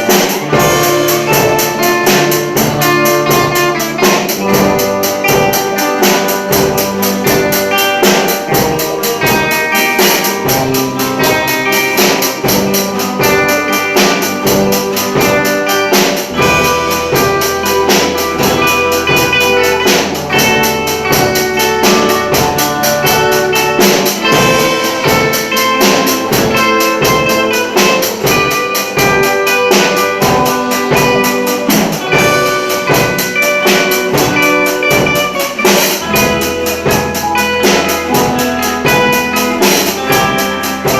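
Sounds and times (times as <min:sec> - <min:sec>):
music on pitched instruments: 0:00.0 - 0:40.9
steady percussion beat: 0:00.0 - 0:40.9.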